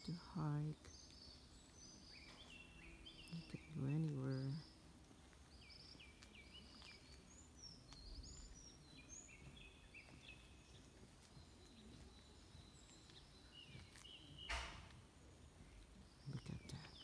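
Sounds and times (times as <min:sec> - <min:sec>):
faint low outdoor hum: 0:00.0 - 0:17.0
small birds chirping: 0:00.0 - 0:17.0.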